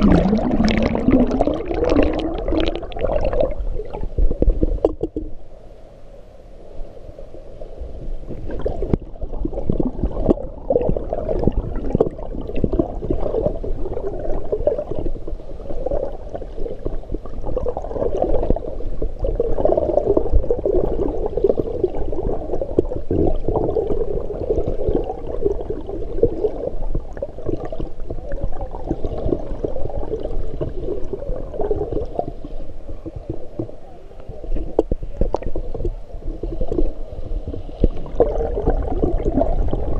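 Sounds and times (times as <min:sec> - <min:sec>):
muffled underwater churning and bubbling: 0:00.0 - 0:39.9.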